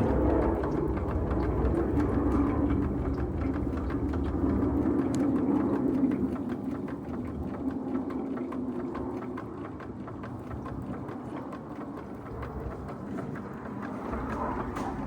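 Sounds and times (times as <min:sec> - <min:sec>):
distant jet engine rumble: 0:00.0 - 0:15.0.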